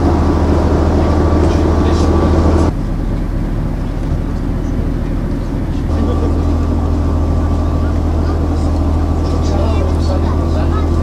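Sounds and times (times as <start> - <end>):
boat engine humming: 0.0 - 11.0
rough rumble: 0.0 - 11.0.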